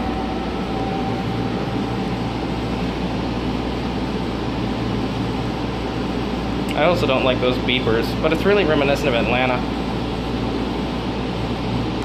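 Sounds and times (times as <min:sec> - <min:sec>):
ventilation hum and air rush: 0:00.0 - 0:12.0.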